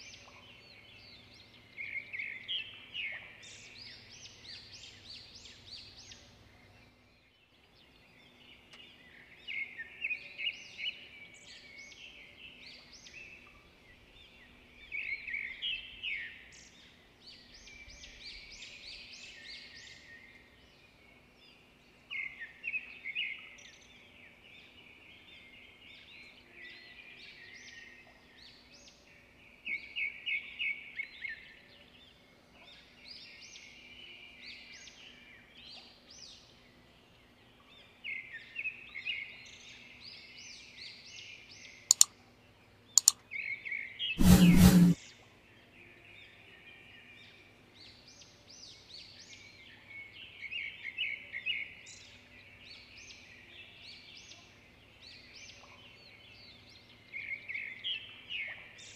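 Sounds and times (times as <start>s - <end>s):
songbird chirping and trilling: 0.0s - 58.9s.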